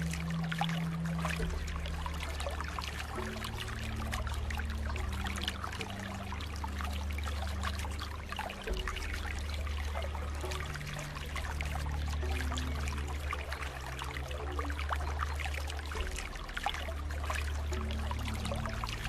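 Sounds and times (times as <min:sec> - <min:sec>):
water flowing with small splashes: 0:00.0 - 0:19.0.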